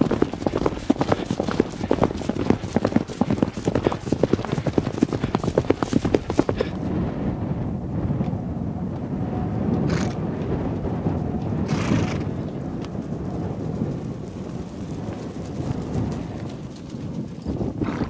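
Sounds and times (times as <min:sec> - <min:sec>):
horse galloping on grass: 0:00.0 - 0:06.9, 0:09.8 - 0:18.0
wind rumble on microphone: 0:00.0 - 0:18.0.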